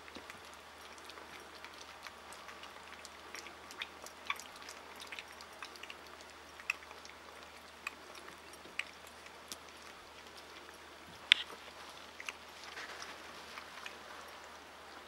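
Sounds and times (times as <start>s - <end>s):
puppies crunching kibble: 0.0s - 15.0s.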